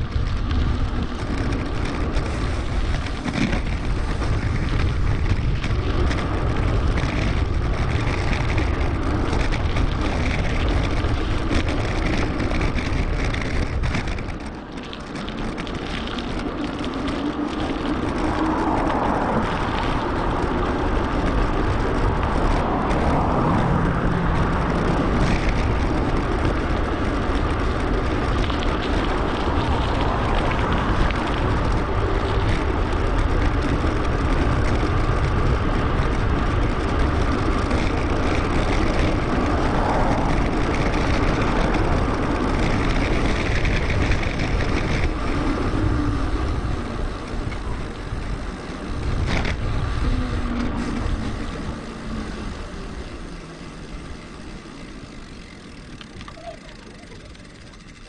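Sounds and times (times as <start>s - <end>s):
wind on microphone: 0.0s - 54.3s.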